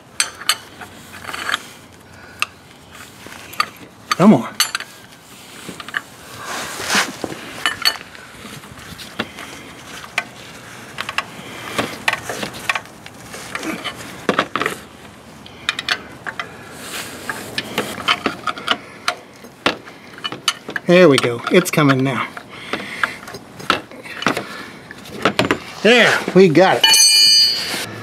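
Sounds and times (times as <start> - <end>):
wrenches clinking and scraping: 0.0 - 6.2, 7.2 - 27.9.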